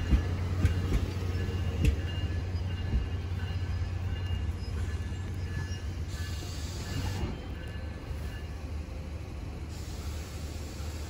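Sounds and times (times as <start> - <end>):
train coaches rumbling: 0.0 - 11.0.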